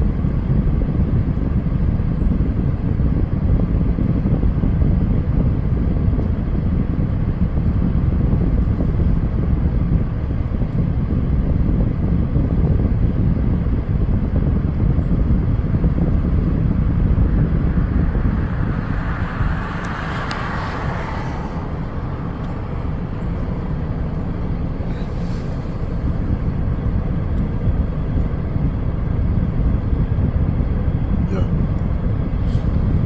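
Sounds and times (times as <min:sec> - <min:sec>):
car rumble: 0:00.0 - 0:33.0
wind noise: 0:00.0 - 0:33.0.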